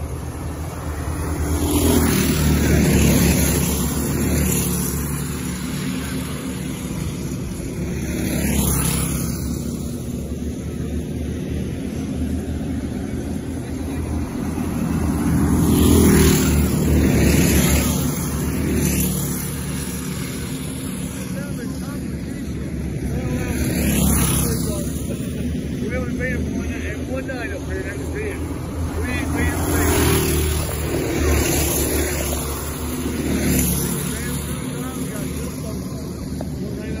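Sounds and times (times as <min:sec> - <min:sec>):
racing kart engines passing: 0:00.0 - 0:37.0.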